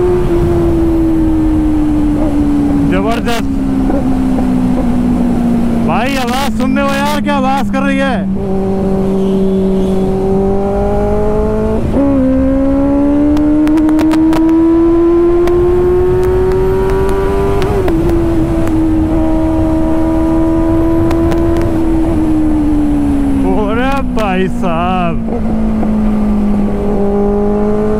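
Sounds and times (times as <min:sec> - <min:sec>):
wind rushing on microphone: 0:00.0 - 0:27.9.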